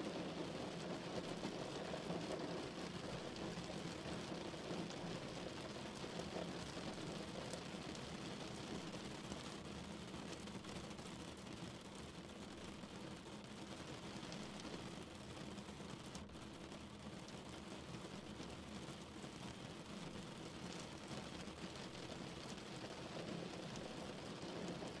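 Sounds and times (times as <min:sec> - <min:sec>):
rain on a car body: 0:00.0 - 0:25.0.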